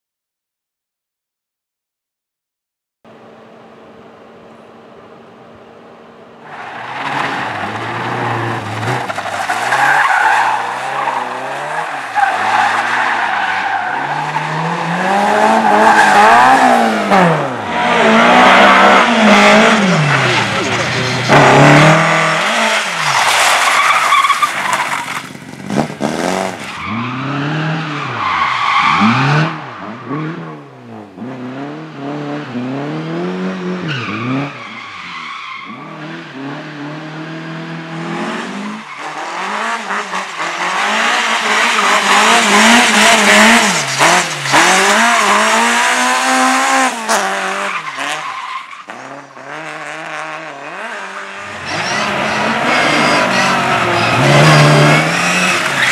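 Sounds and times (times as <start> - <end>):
tyres squealing and skidding: 6.4 - 30.3, 33.5 - 37.0, 37.9 - 55.9
race car engine revving: 6.4 - 55.9.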